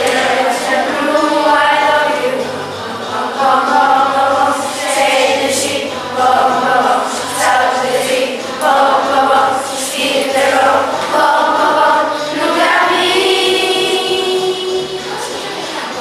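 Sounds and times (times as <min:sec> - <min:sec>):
children singing in chorus: 0:00.0 - 0:16.0.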